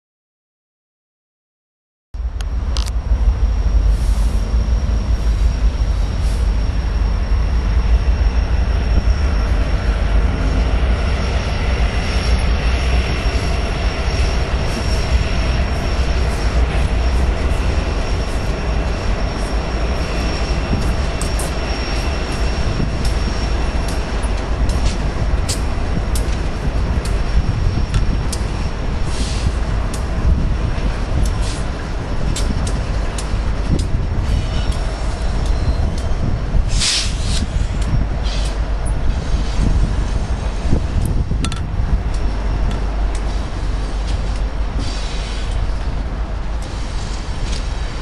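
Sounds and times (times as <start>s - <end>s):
diesel locomotive engines rumbling: 2.2s - 48.0s.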